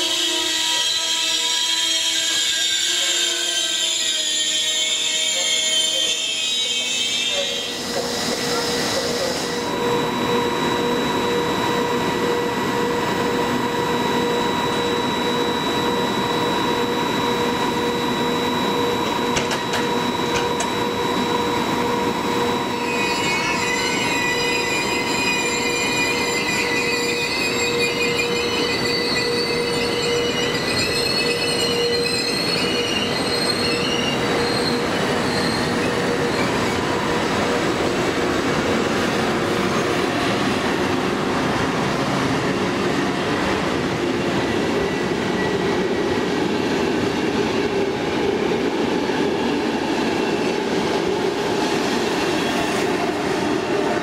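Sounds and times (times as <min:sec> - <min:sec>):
train wheels rumbling on rail: 0:00.0 - 0:54.0
train wheels squealing: 0:00.0 - 0:54.0.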